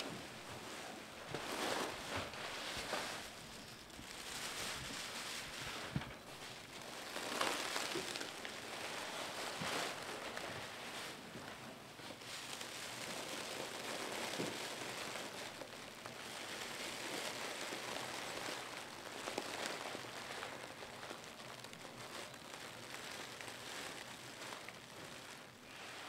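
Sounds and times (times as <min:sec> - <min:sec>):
plastic bags rustling: 0:00.0 - 0:26.0.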